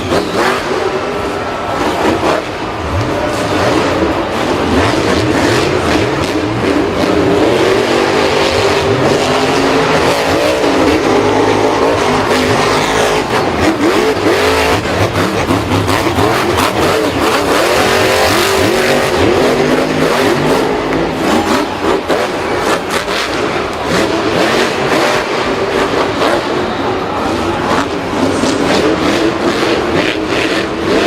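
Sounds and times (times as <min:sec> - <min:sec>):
vehicle engines revving: 0:00.0 - 0:31.0.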